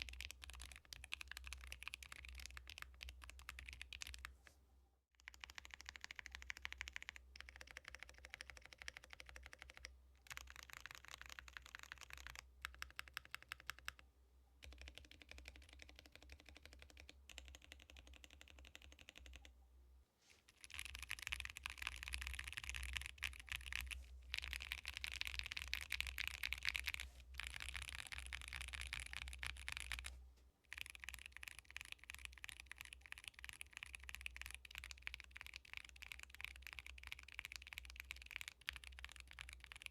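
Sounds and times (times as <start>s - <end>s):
mechanical keyboard typing: 0.0s - 4.3s, 5.2s - 14.0s, 14.6s - 19.5s, 20.6s - 30.1s, 30.7s - 39.9s.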